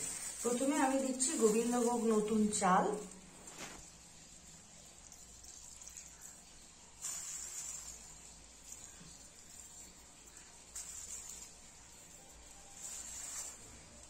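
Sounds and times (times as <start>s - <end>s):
plastic bag crinkling: 0.0s - 4.2s, 4.8s - 14.0s
faint steady high hiss: 0.0s - 14.0s.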